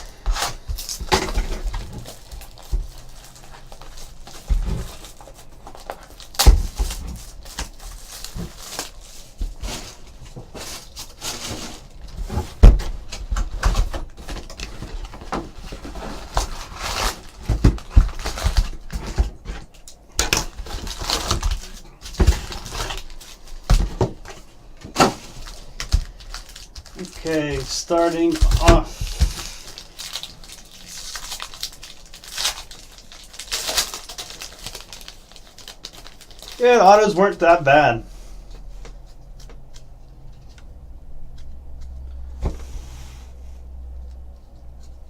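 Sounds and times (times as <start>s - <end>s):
wrapper and cardboard rustling: 0.0s - 43.4s.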